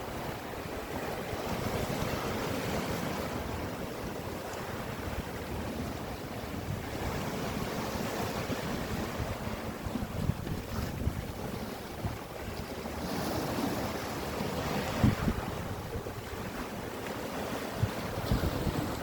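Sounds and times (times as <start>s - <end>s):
sea surf washing in: 0.0s - 19.0s
wind buffeting microphone: 0.0s - 19.0s.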